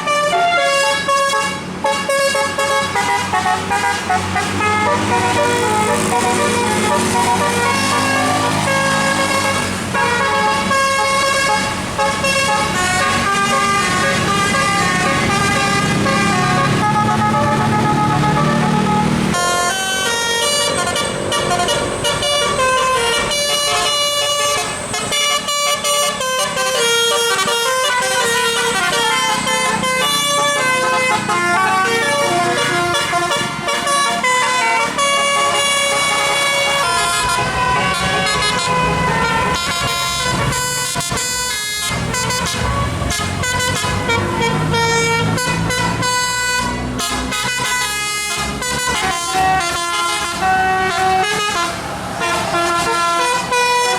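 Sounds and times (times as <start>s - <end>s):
bus engine running: 0.0s - 53.9s
multi-tone bus horns playing tunes: 0.0s - 53.9s.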